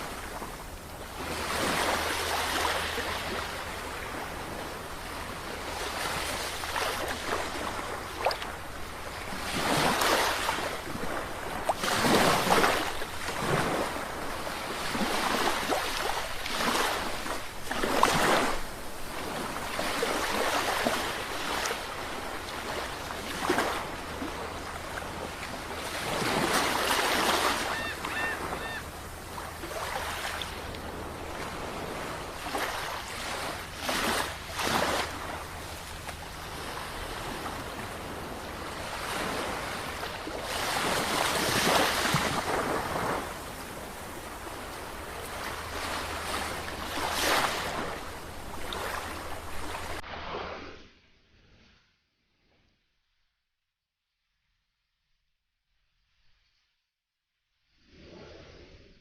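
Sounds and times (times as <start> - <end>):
sea waves breaking: 0.0 - 50.8.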